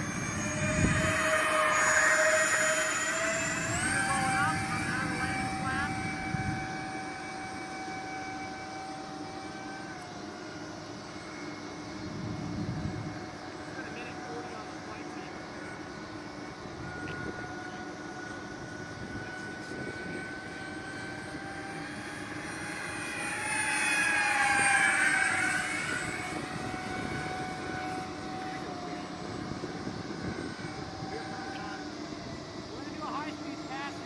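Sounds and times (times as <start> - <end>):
model plane electric fans whining: 0.0 - 34.0.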